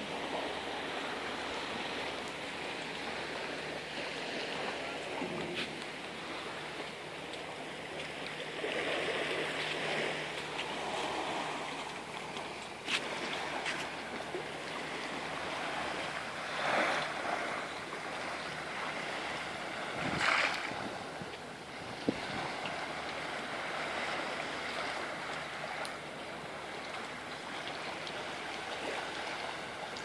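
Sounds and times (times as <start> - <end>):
small waves lapping: 0.0 - 30.0.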